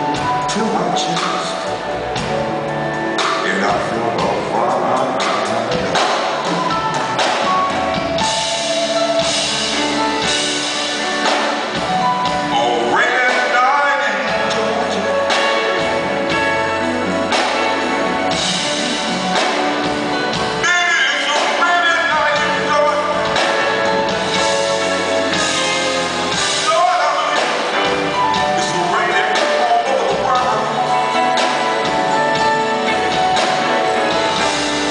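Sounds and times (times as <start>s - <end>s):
electric guitar melody: 0.0s - 34.9s
smooth jazz band playing: 0.0s - 34.9s.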